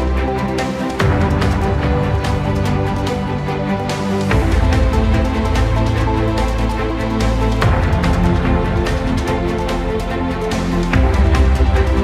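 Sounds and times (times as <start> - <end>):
synth music with steady beat: 0.0 - 12.0.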